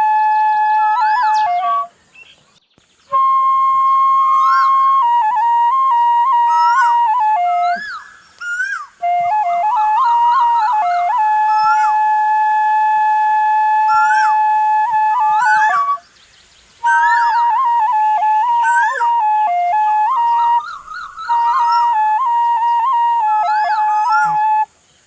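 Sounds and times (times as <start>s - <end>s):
bamboo flute melody: 0.0s - 2.1s, 3.0s - 16.2s, 16.8s - 24.7s.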